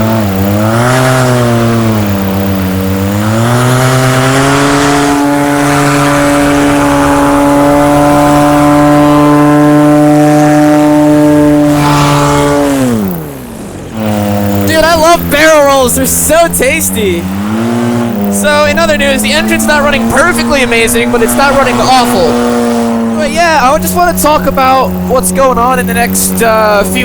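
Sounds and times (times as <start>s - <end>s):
paramotor engine and propeller: 0.0s - 27.0s.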